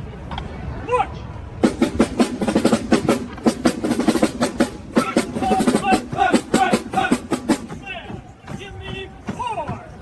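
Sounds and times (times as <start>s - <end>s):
marching band tune: 1.6s - 10.0s.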